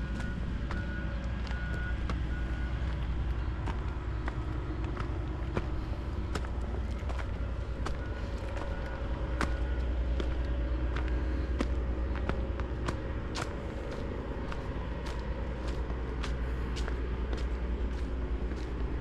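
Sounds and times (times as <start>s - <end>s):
steady low rumble: 0.0s - 19.0s
footsteps on a path: 0.1s - 19.0s.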